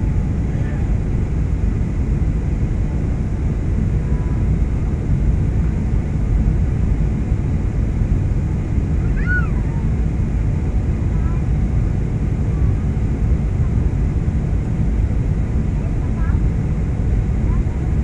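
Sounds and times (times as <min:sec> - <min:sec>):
jet airliner cabin rumble: 0:00.0 - 0:18.0.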